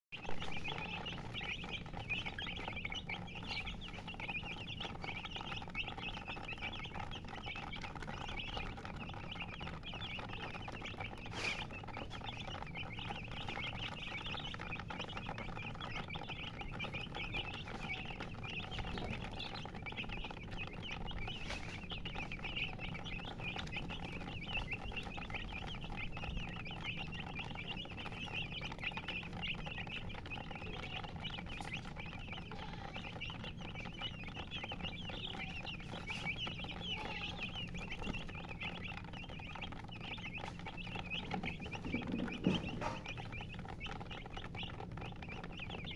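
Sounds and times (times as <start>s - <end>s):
chicks peeping: 0.1s - 45.9s.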